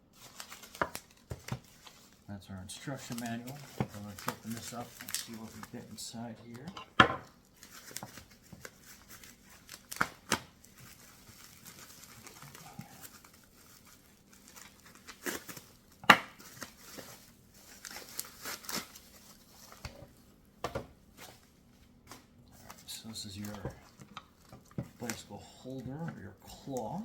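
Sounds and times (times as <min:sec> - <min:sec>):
packaging tearing and crinkling: 0:00.1 - 0:02.2, 0:02.8 - 0:19.9, 0:22.1 - 0:26.0.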